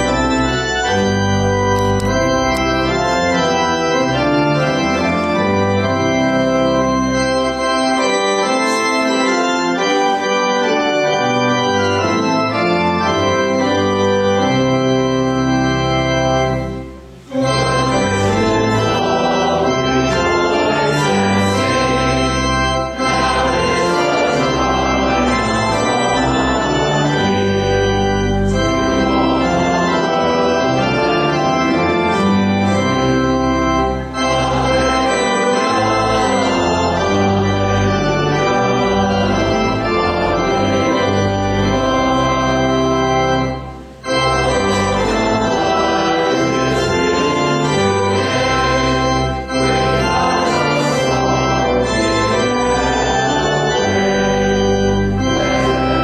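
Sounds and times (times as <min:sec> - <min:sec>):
choir and congregation singing: 0:00.0 - 0:56.0
church organ chords: 0:00.0 - 0:56.0.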